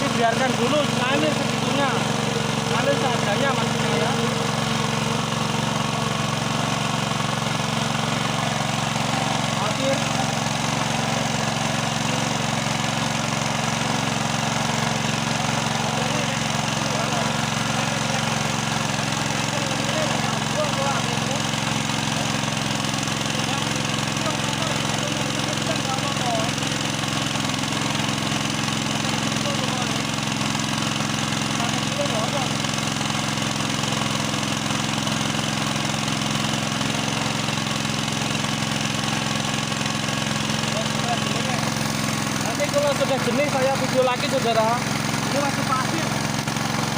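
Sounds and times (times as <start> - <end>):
water pump engine running: 0.0 - 46.9.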